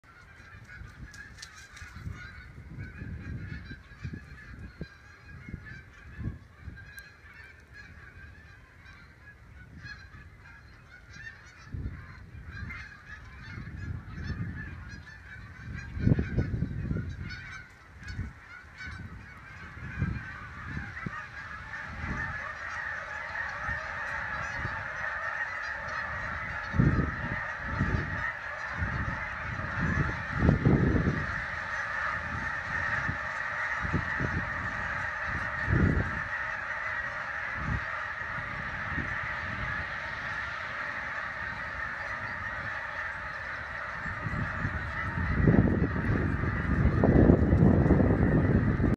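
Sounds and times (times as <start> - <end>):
geese honking: 0.0 - 48.9
wind buffeting microphone: 0.1 - 48.9.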